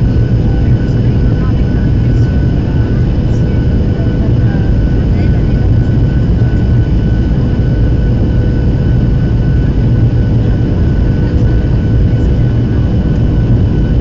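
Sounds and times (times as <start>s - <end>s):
airliner engine roar in cabin: 0.0s - 14.0s.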